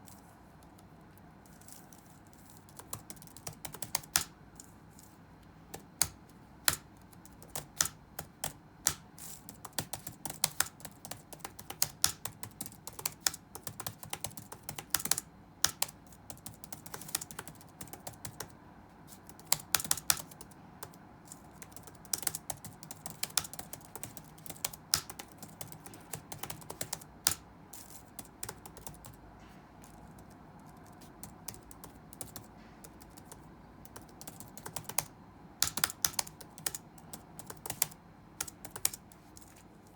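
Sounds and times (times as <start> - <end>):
faint room hum: 0.0 - 39.9
keyboard typing: 1.4 - 29.2, 29.8 - 39.6.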